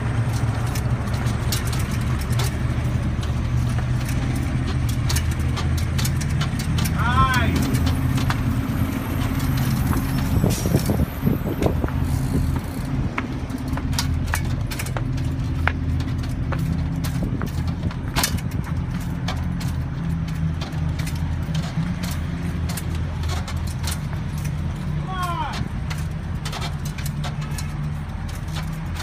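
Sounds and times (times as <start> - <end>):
bike wheels knocking on steps: 0.0 - 29.0.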